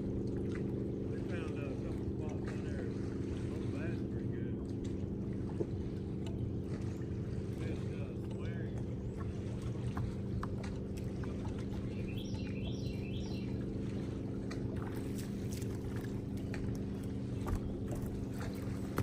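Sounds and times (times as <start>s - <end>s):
electric trolling motor humming: 0.0s - 19.0s.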